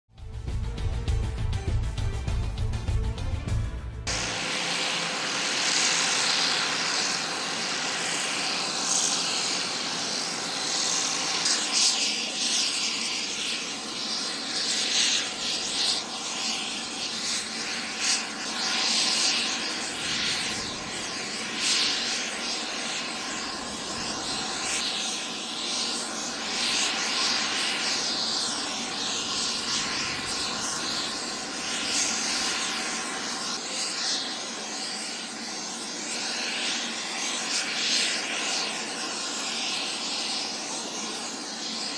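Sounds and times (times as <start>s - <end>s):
jet engines running: 0.1s - 41.9s.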